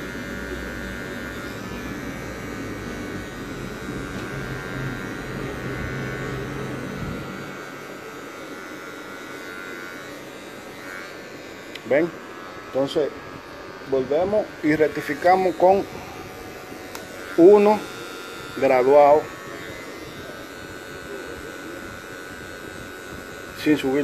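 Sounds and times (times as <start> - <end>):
hair clipper buzzing: 0.0 - 24.0.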